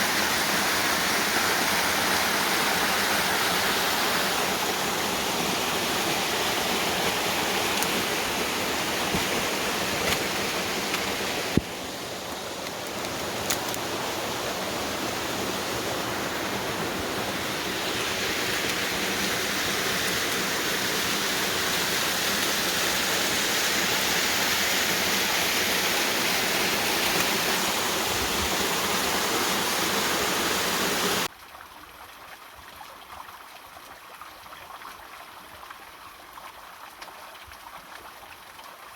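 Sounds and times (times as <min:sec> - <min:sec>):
waterfall rushing: 0:00.0 - 0:31.3.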